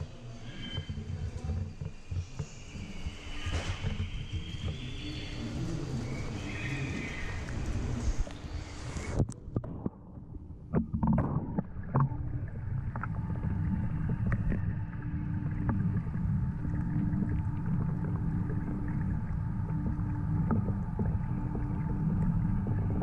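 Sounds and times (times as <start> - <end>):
constant hum: 0.0 - 23.0
underwater low rumble: 0.0 - 23.0.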